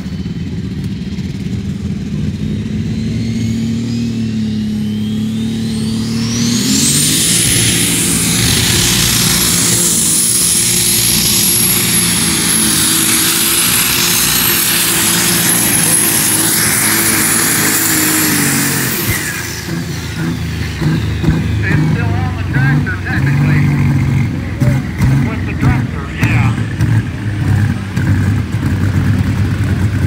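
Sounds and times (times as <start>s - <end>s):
high whine: 0.0s - 30.0s
tractor engine under load: 5.3s - 30.0s.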